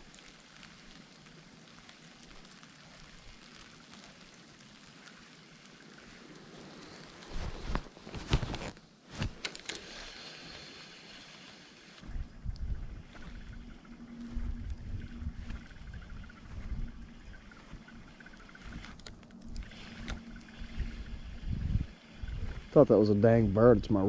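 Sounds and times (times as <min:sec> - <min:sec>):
hiss of wind and snow: 0:00.0 - 0:24.0.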